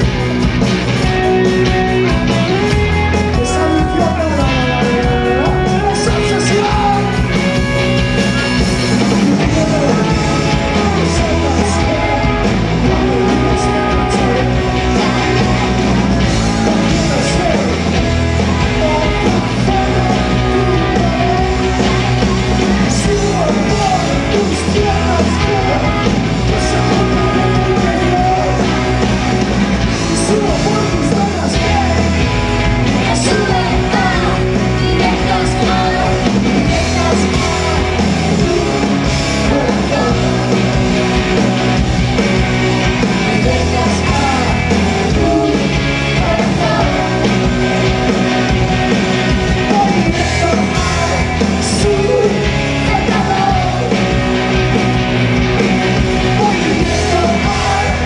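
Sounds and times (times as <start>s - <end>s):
bass guitar: 0.0s - 58.0s
drums: 0.0s - 58.0s
electric guitars: 0.0s - 58.0s
person singing: 1.3s - 7.5s, 9.0s - 29.2s, 29.9s - 32.3s, 33.0s - 41.9s, 42.9s - 48.6s, 49.4s - 54.2s, 56.3s - 58.0s.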